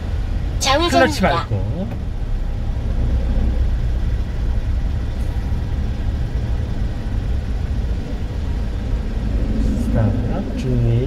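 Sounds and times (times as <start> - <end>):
road and tyre noise: 0.0 - 11.0
truck engine idling: 0.0 - 11.0.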